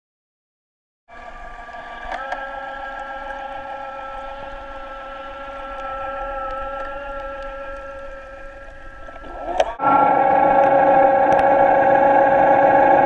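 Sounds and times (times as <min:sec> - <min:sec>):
underwater motor whine: 0:01.1 - 0:13.0.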